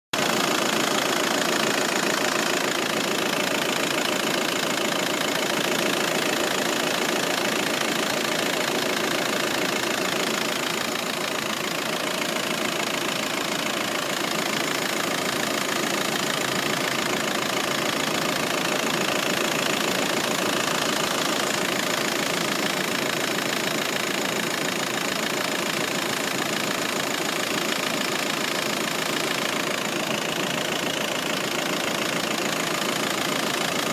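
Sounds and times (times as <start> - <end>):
diesel car engine idling: 0.2 - 33.9.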